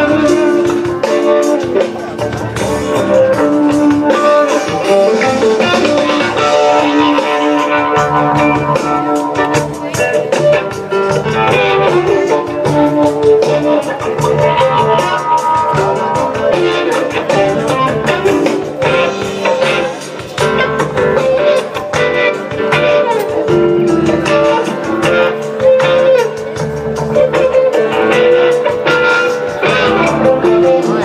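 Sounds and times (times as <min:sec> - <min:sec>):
drum kit: 0:00.0 - 0:31.0
electric guitar: 0:00.0 - 0:31.0.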